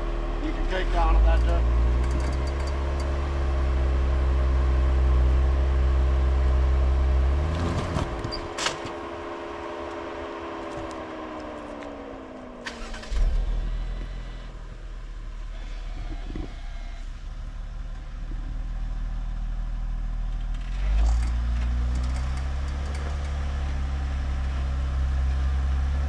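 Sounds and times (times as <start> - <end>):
off-road vehicle engine at low revs: 0.0 - 26.0.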